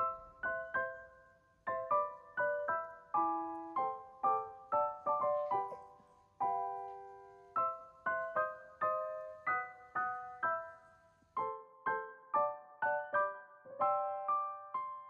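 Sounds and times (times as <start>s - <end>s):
gentle piano-like keyboard chords: 0.0s - 15.0s.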